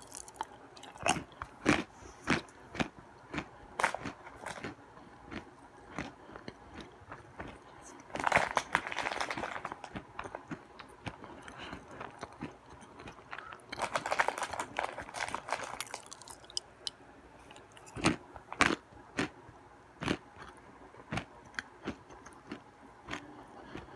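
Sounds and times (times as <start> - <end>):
nuts being chewed crunching: 0.0 - 19.4, 20.0 - 23.9.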